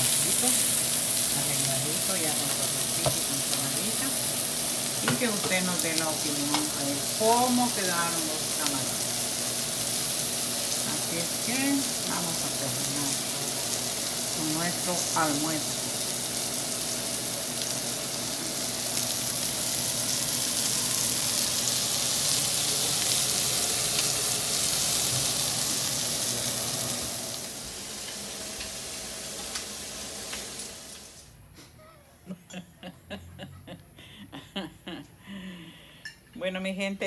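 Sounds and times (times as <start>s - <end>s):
shrimp sizzling on griddle: 0.0s - 31.4s.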